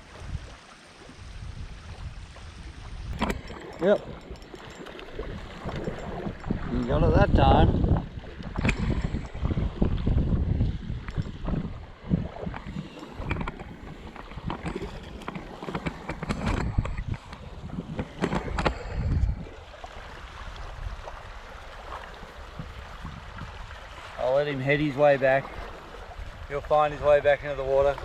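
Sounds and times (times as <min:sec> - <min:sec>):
knocks and splashes: 0:00.0 - 0:28.0
water lapping: 0:00.0 - 0:28.0
wind rumbling on microphone: 0:00.0 - 0:28.0.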